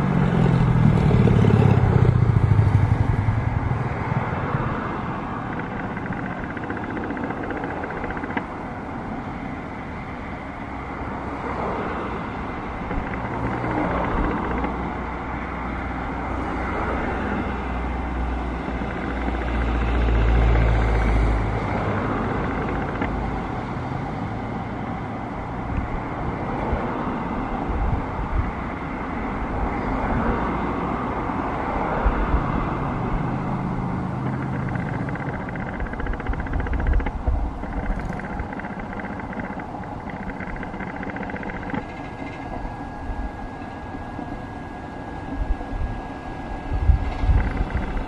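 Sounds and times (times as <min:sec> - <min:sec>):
distant jet engine rumble: 0:00.0 - 0:48.0
wind buffeting microphone: 0:00.0 - 0:48.0.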